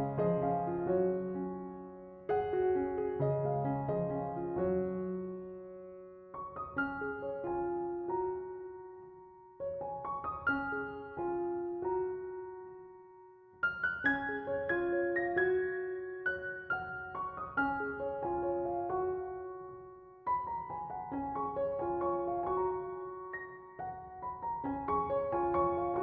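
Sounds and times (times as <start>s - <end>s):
soft arpeggiated piano music: 0.0s - 26.0s.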